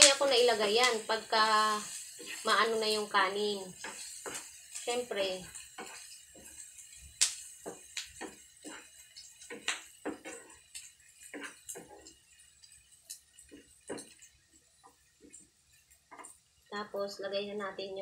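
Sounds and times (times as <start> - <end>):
wooden spatula scraping frying pan: 0.0 - 15.4.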